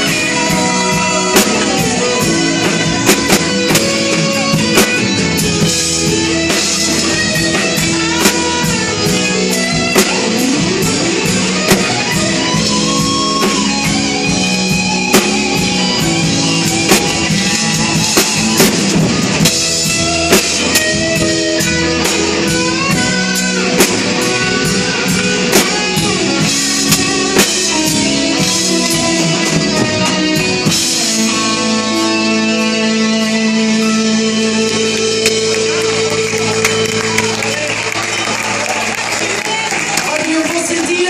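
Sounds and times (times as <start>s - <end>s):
electric guitar: 0.0s - 41.0s
live rock band playing: 0.0s - 41.0s.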